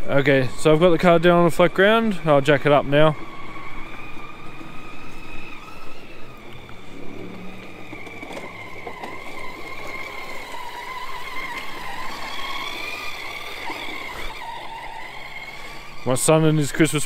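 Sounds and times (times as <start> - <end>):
electric toy motor whine: 0.0 - 17.0.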